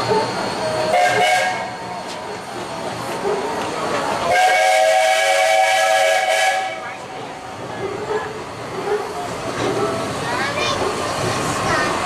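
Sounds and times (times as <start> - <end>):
steam locomotive rolling: 0.0 - 12.0.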